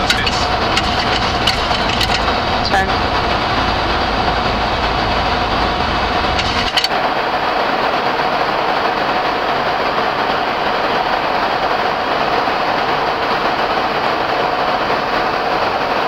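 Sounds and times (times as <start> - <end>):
rushing cockpit noise: 0.0 - 14.1.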